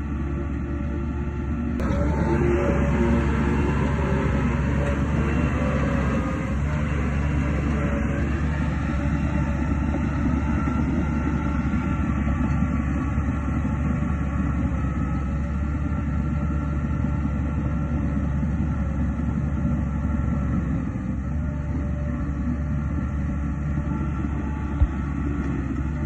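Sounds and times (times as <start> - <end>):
bulldozer diesel engine rumbling: 0.0 - 26.0.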